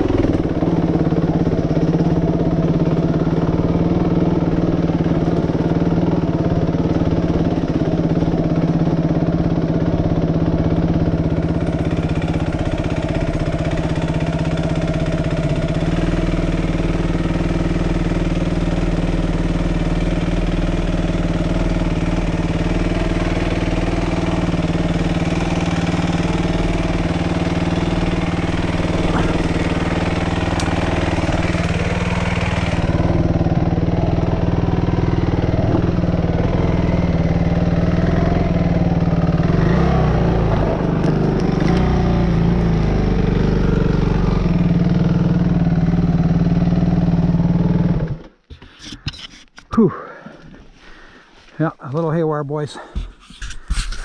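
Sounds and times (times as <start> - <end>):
dirt bike engine running: 0.0 - 48.8.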